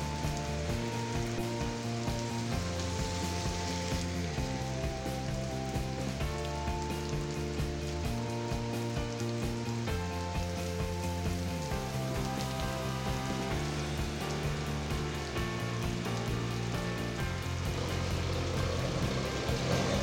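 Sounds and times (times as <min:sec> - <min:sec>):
heavy rain on a wet road: 0:00.0 - 0:20.0
music with chords and beat: 0:00.0 - 0:20.0.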